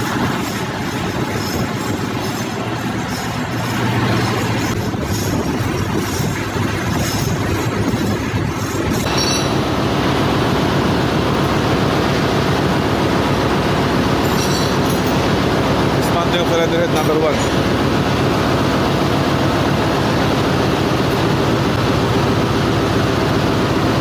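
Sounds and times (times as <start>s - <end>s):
engine-room machinery rumble: 0.0s - 24.0s.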